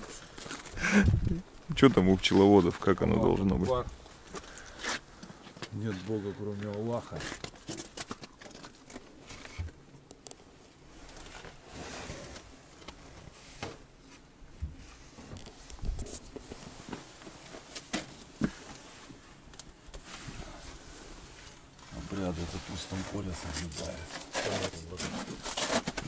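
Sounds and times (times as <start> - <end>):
rustling of people moving: 0.0 - 26.0.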